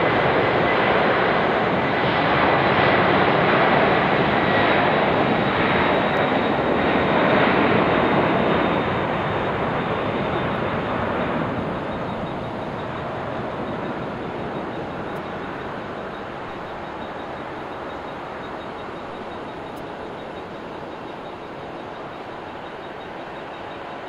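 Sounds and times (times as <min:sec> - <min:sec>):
high engine whine: 0:00.0 - 0:24.0
jet engines roaring: 0:00.0 - 0:24.0.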